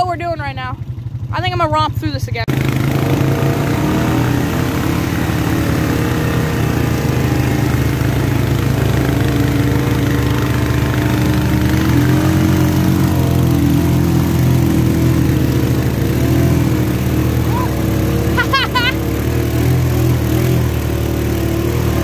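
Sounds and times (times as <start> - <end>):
atv engines running: 0.0 - 22.0
water churning and splashing: 2.5 - 22.0.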